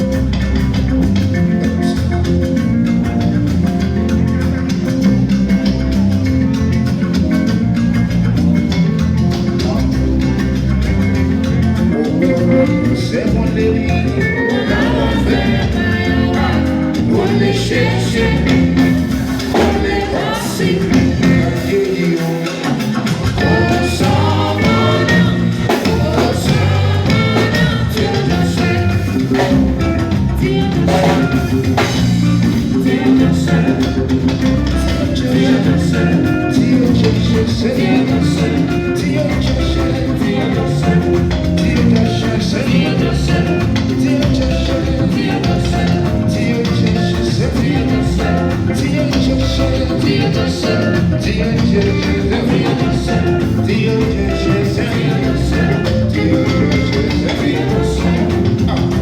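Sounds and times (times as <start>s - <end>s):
drum kit: 0.0s - 59.0s
live band playing: 0.0s - 59.0s
person singing: 11.7s - 59.0s.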